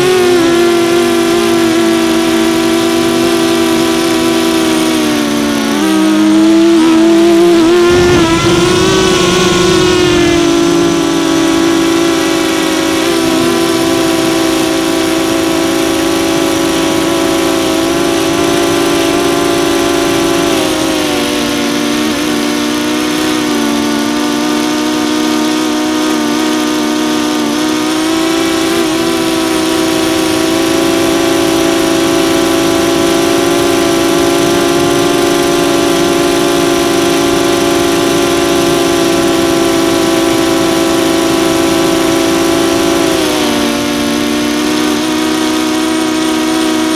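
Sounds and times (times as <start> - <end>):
drone propellers droning: 0.0 - 46.9.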